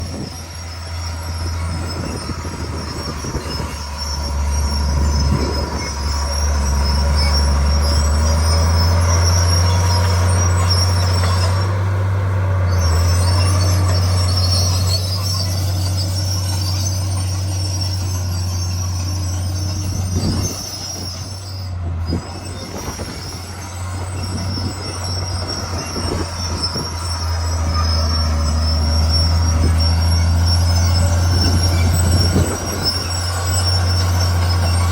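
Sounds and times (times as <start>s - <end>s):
bulldozer diesel engine droning: 0.0s - 34.9s
metallic squeal of running gear: 0.0s - 34.9s.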